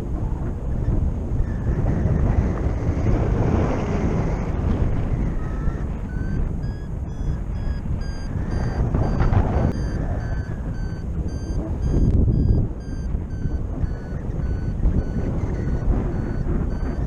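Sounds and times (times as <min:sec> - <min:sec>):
wind rushing over microphone: 0:00.0 - 0:17.0
variometer beeping: 0:00.8 - 0:02.7, 0:03.6 - 0:17.0.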